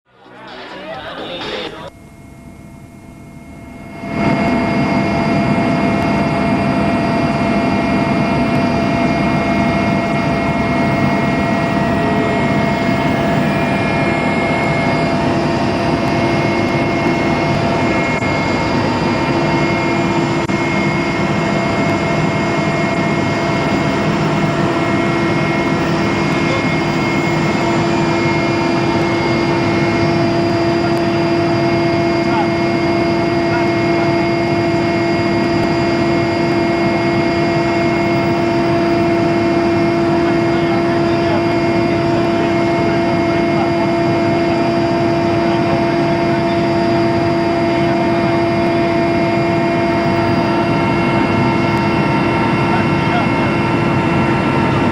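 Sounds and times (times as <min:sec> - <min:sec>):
helicopter engine and rotor drone: 0:00.1 - 0:54.9.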